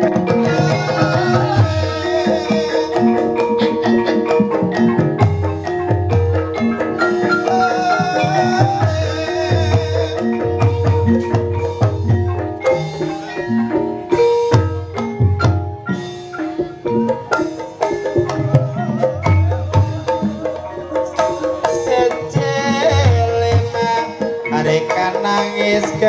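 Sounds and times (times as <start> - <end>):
hand drum strokes: 0.0 - 26.0
metallophone notes: 0.0 - 26.0.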